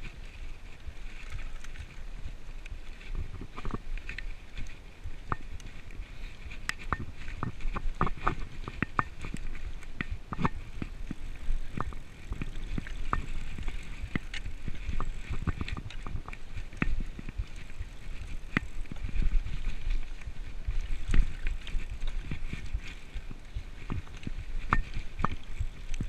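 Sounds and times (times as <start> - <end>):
bike rattling over bumps: 0.0 - 26.0
bike tyres rolling on dirt: 0.0 - 26.0.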